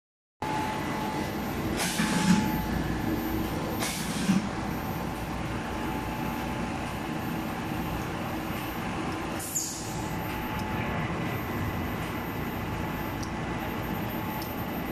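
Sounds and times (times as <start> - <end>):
factory machinery hum: 0.4 - 14.9
thin steady whine: 0.4 - 14.9.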